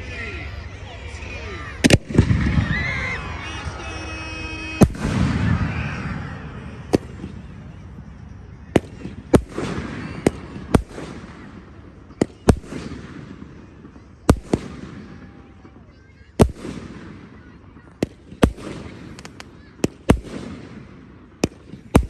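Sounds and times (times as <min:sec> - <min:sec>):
fireworks bursting with bangs: 0:01.6 - 0:22.0.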